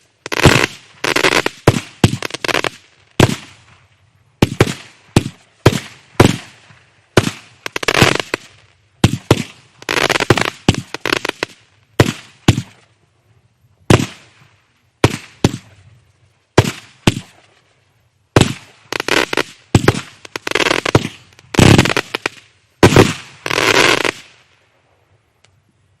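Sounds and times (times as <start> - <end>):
firework bangs: 0.0 - 12.9, 13.9 - 15.8, 16.5 - 17.5, 18.4 - 24.4
firework crackling: 0.0 - 13.0, 13.8 - 24.6.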